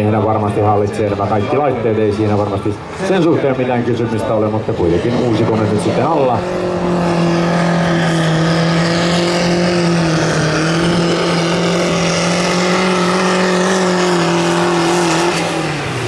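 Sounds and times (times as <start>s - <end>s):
tractor engine at high revs: 0.0s - 16.0s.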